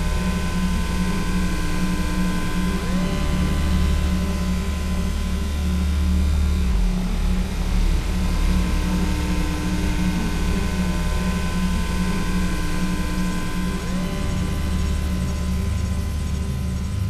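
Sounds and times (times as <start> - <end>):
electronic low hum drone: 0.0 - 17.0.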